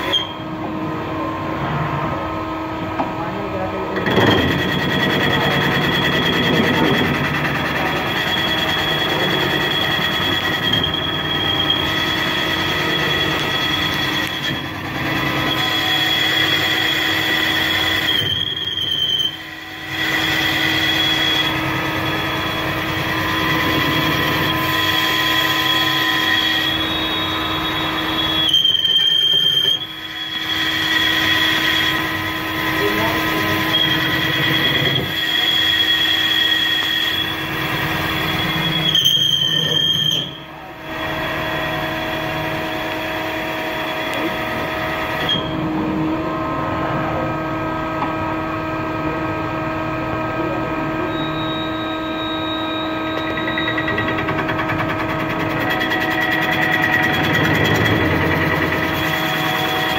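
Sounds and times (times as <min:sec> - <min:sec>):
high-pitched whine: 0:00.0 - 0:59.9
lathe machine noise: 0:00.0 - 0:59.9.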